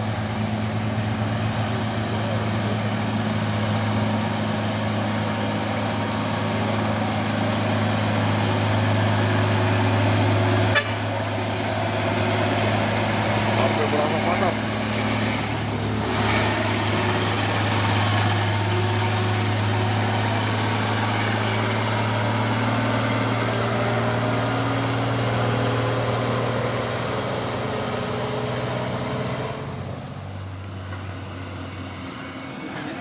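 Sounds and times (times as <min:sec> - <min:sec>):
heavy truck diesel engine running: 0:00.0 - 0:33.0.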